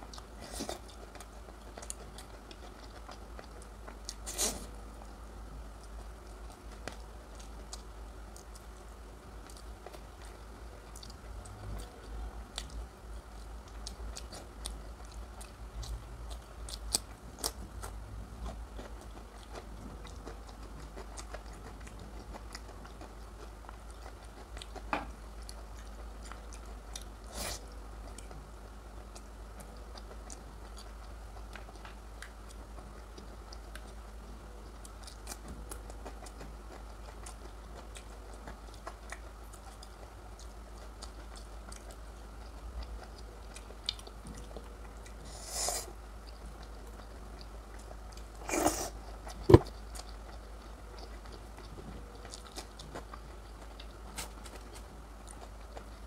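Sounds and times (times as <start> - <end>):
person chewing wetly: 0.0 - 56.0
steady low hum: 0.0 - 56.0.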